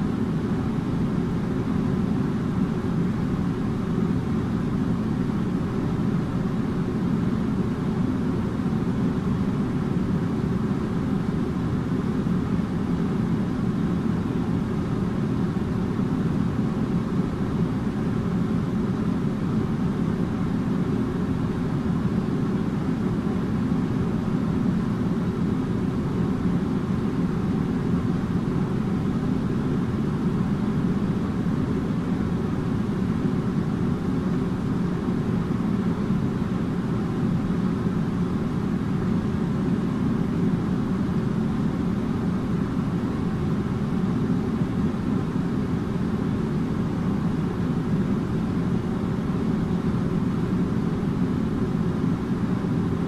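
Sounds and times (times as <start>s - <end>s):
faint constant tone: 0.0s - 53.0s.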